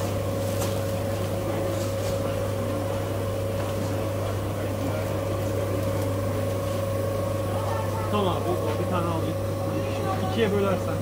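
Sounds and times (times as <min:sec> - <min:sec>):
rotisserie oven humming: 0:00.0 - 0:11.0.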